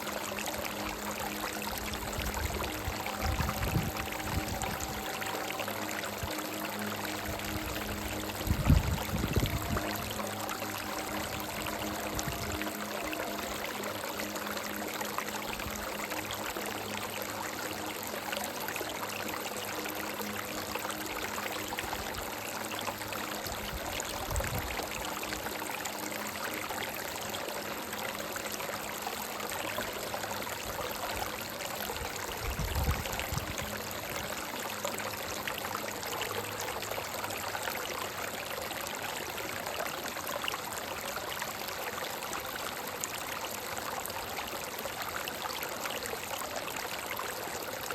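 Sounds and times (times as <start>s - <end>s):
water running over rocks: 0.0s - 47.9s.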